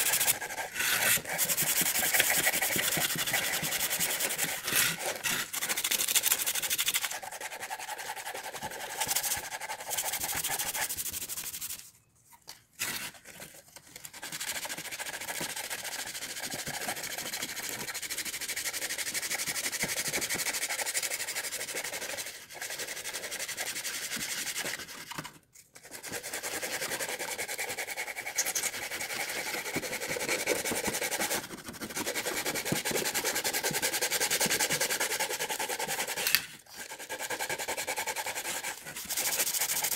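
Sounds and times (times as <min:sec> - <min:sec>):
sanding and scraping wood: 0:00.0 - 0:11.9, 0:14.1 - 0:25.2, 0:25.8 - 0:39.9.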